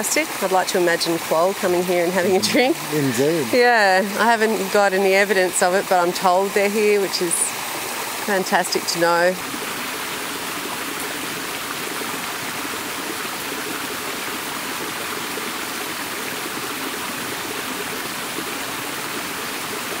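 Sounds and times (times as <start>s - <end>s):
creek running over rocks: 0.0s - 20.0s.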